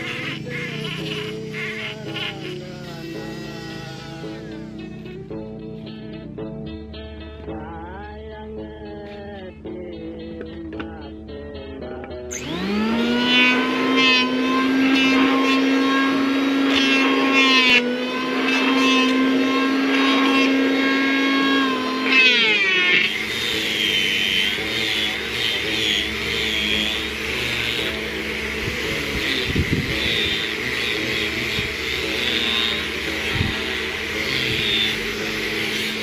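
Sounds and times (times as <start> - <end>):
electric hand planer shaving wood: 0.0 - 6.2, 12.3 - 36.0
power tool wavering whine: 0.0 - 6.2, 12.3 - 36.0.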